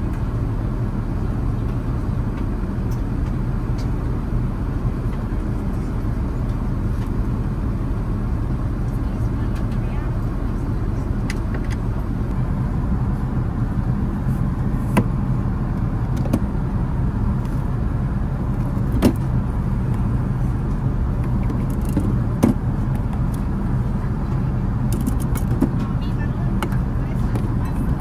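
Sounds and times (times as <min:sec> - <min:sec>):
low rumble of airplane cabin: 0:00.0 - 0:28.0.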